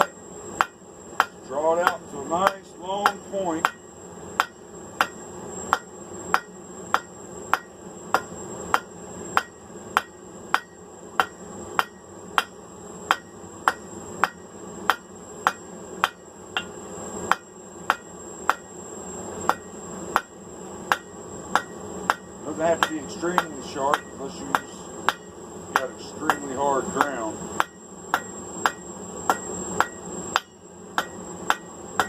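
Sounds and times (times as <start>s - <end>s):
hammer striking metal on anvil: 0.6s - 3.8s, 4.4s - 12.5s, 13.1s - 16.7s, 20.9s - 32.0s.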